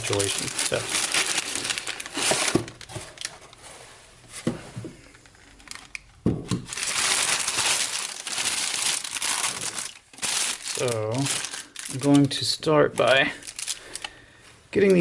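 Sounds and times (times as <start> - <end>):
packaging crinkling: 0.0 - 3.6, 5.3 - 6.0, 6.6 - 14.2.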